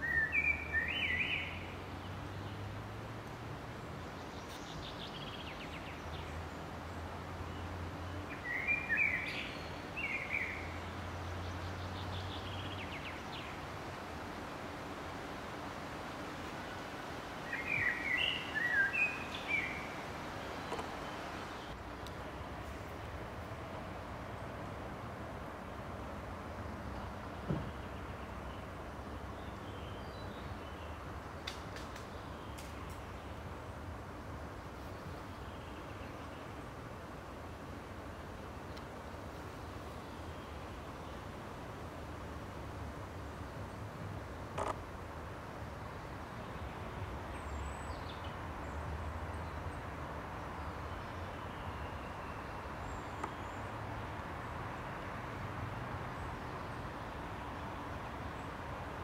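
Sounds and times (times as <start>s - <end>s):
low rumble of distant traffic: 0.0s - 59.0s.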